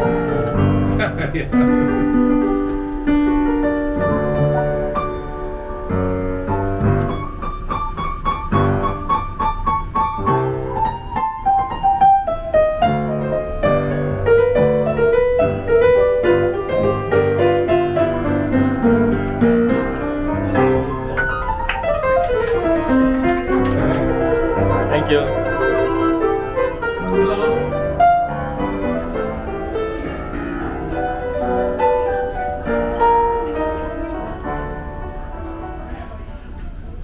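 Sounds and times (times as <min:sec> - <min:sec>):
piano playing: 0:00.0 - 0:37.0.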